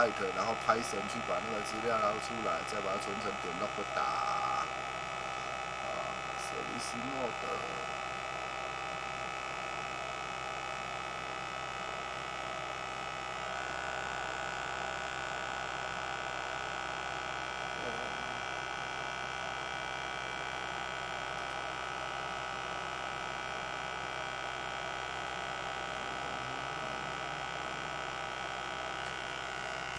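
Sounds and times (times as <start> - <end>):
electrical machine hum: 0.0 - 29.9.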